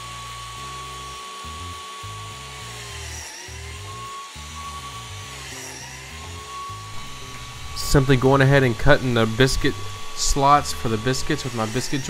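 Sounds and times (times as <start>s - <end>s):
biscuit joiner high whine: 0.0s - 12.0s
blade cutting into board: 0.1s - 12.0s.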